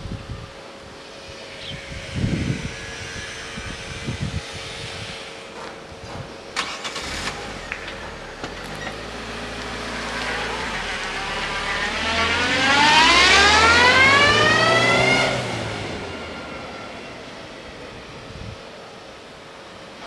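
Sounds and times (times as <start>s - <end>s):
diesel railcar engine hum: 0.0s - 13.1s, 15.4s - 20.0s.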